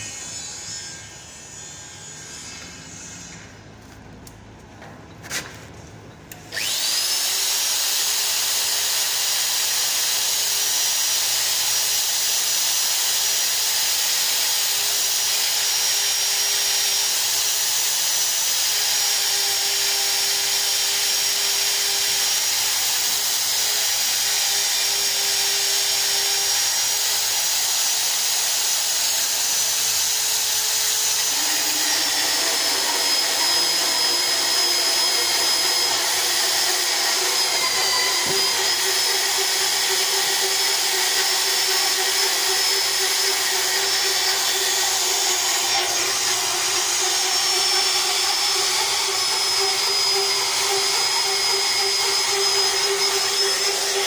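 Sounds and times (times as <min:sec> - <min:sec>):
electric drill whining: 0:06.4 - 0:54.0.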